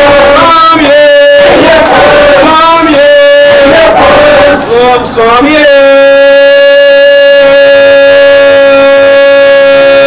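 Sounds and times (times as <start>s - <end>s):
group chanting devotional song: 0.0s - 10.0s.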